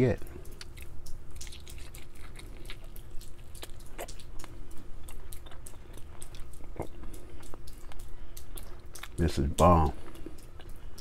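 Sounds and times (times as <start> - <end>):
man chewing food: 0.0 - 11.0.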